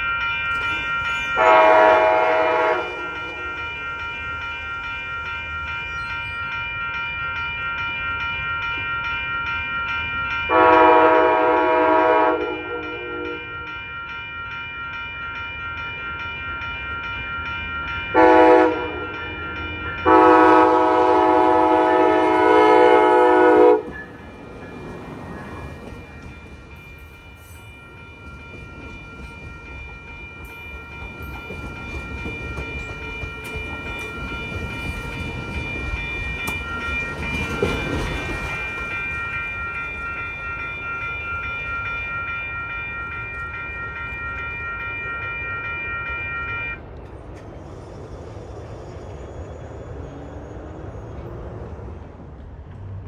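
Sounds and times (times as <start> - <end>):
high ringing tone: 0.0 - 46.8
train cars rumbling past: 0.0 - 53.0.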